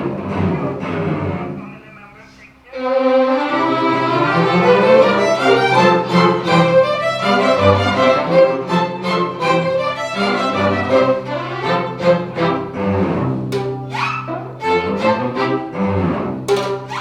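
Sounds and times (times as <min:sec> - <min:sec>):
string orchestra playing: 0:00.0 - 0:17.0.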